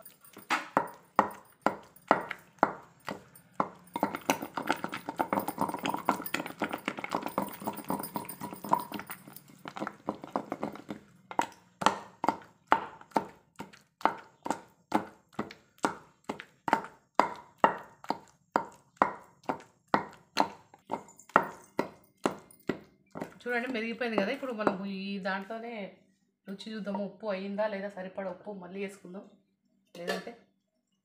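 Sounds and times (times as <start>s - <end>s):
wooden pestle pounding: 0.0s - 24.9s.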